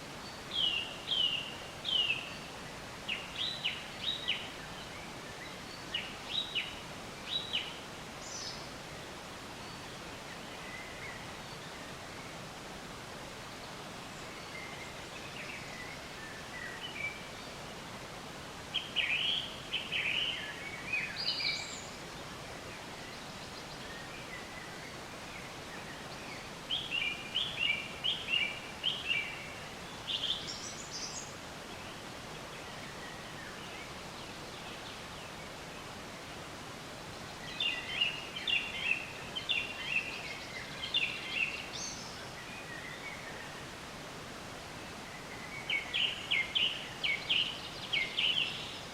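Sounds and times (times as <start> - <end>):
songbird chirping: 0.0 - 48.9
steady outdoor hiss: 0.0 - 48.9.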